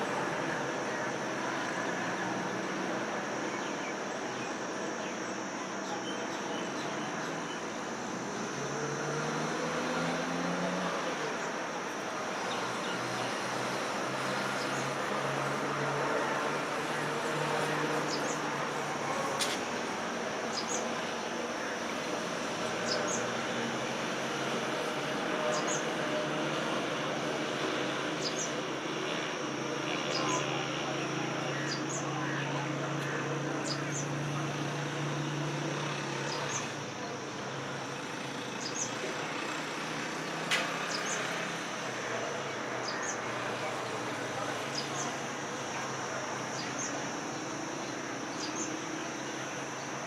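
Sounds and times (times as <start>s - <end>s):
outdoor ambience hiss: 0.0s - 50.0s.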